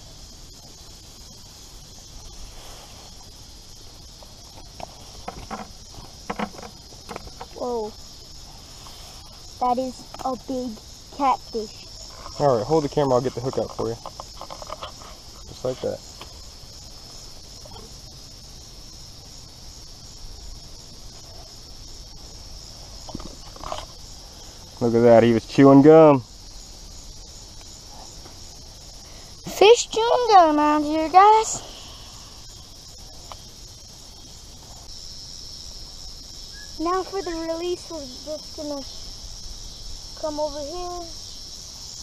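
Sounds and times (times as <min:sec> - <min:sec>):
high-pitched insect chorus: 0:00.0 - 0:42.0
steady high hiss: 0:00.0 - 0:42.0.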